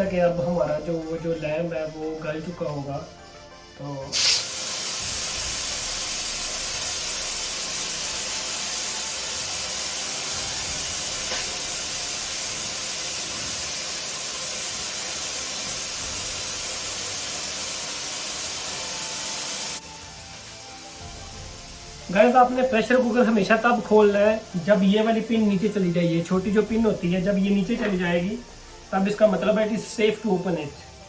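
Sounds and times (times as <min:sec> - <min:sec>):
pressure cooker steam hissing: 0:00.0 - 0:31.0.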